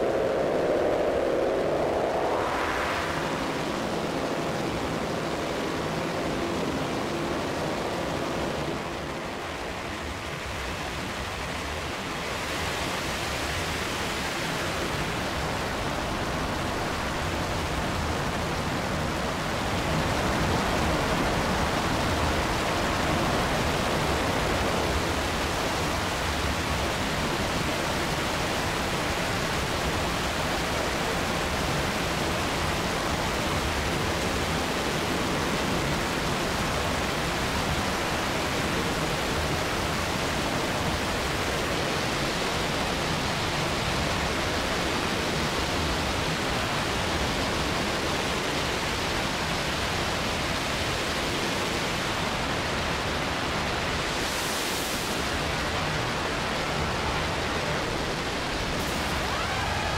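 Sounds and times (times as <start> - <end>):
dense rushing feedback noise: 0.0 - 48.3, 52.0 - 59.9.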